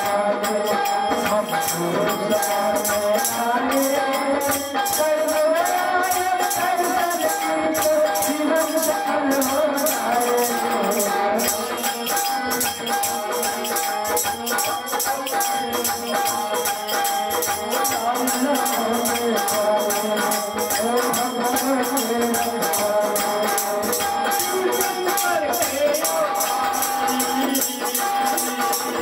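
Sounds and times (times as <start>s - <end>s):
hand drum: 0.0s - 29.0s
harmonium chords: 0.0s - 29.0s
jingling hand percussion: 0.0s - 29.0s
man singing: 0.0s - 29.0s.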